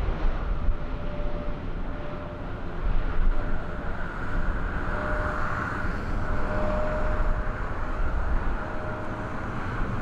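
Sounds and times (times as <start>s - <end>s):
jet engine roar: 0.0s - 10.0s.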